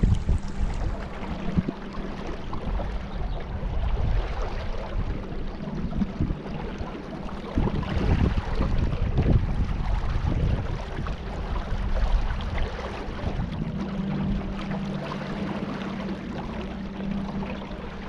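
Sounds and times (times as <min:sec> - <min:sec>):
wind buffeting microphone: 0:00.0 - 0:14.6
water rushing: 0:00.0 - 0:18.0.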